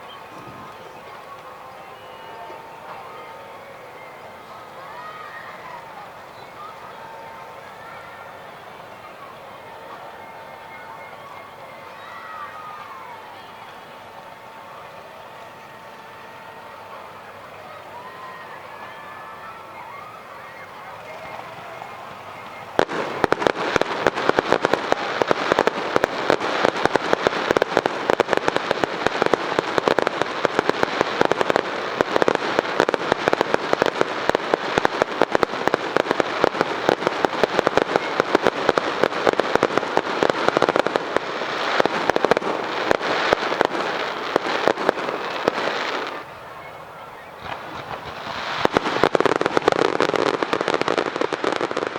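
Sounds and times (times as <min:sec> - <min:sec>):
fireworks crackling and popping: 0:00.0 - 0:51.9.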